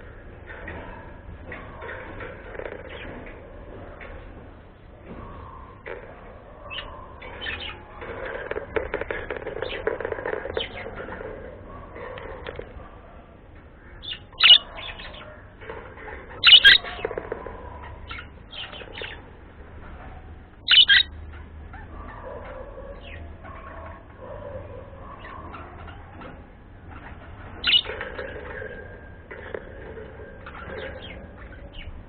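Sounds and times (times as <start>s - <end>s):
birds chirping and chattering: 0.0s - 32.0s.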